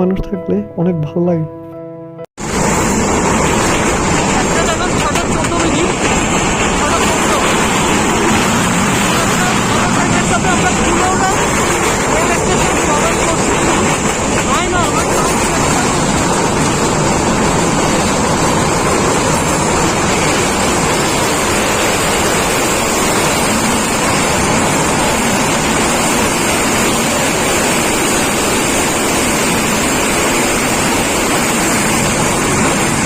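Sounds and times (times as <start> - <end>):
train rushing wind: 2.4 - 33.0
wheel-on-rail noise: 2.4 - 33.0.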